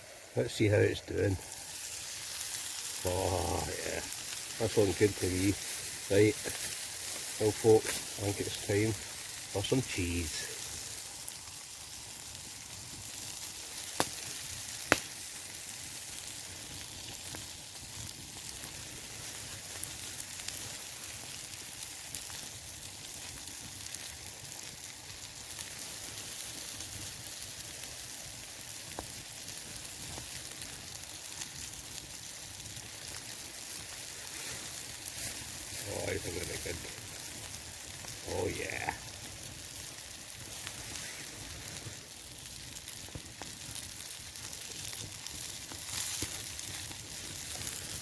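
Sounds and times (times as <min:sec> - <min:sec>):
meat sizzling in oil: 0:00.0 - 0:48.0.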